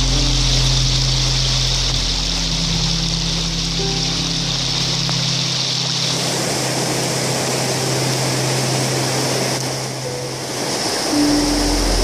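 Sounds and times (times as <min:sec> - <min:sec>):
floodwater rushing: 0:00.0 - 0:12.0
low steady hum: 0:00.0 - 0:12.0.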